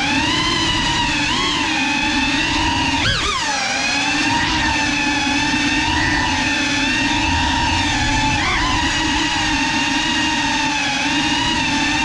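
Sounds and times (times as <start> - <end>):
drone motors buzzing whine: 0.0 - 12.0.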